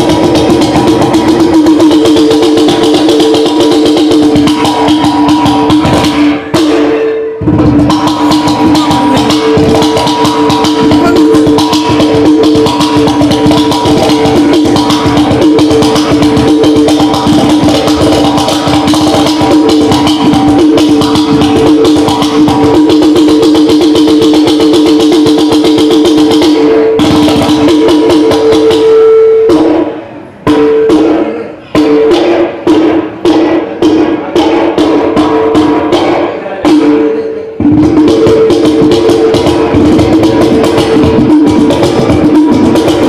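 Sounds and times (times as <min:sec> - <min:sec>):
pot drum played with hands: 0:00.0 - 0:43.0.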